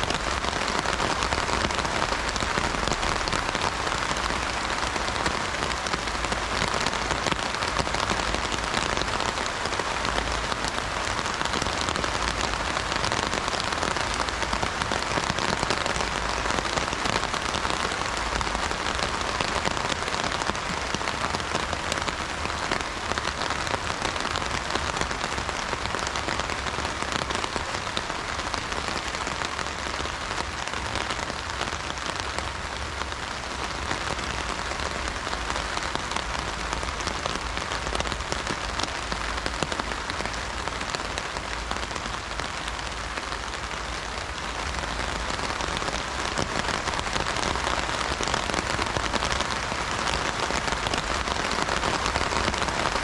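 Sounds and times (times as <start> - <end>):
heavy rain on umbrella: 0.0 - 53.0.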